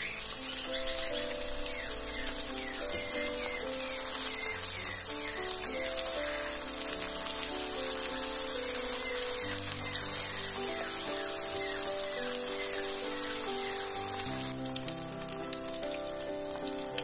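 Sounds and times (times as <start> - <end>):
food sizzling in hot oil: 0.0 - 17.0
soft background music: 0.0 - 17.0.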